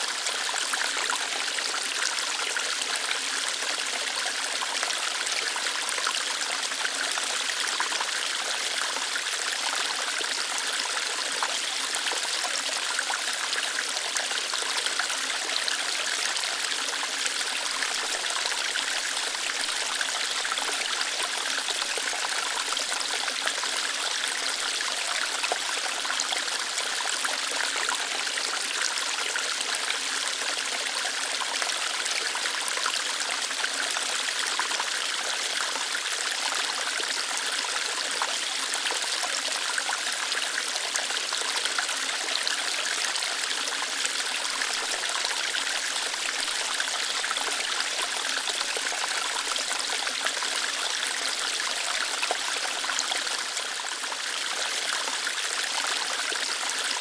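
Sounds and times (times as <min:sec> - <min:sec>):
small waterfall splashing over rocks: 0:00.0 - 0:57.0.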